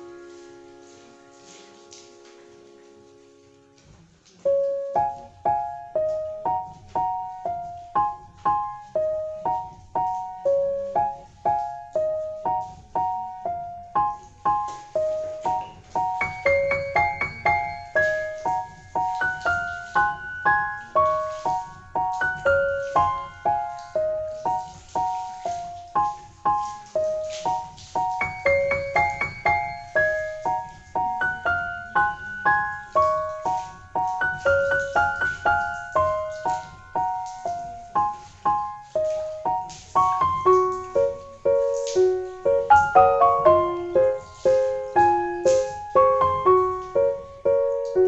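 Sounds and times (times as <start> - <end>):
gentle piano melody: 0.0 - 48.0.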